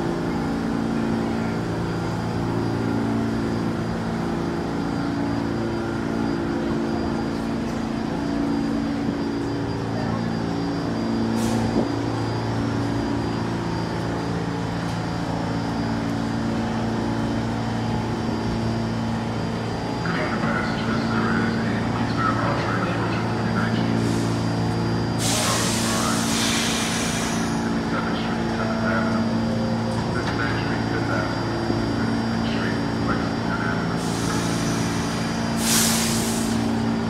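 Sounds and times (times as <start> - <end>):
train equipment low hum: 0.0 - 37.0.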